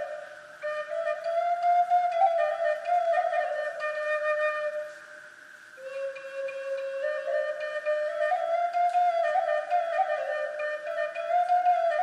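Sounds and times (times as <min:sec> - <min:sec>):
flute music: 0:00.0 - 0:12.0.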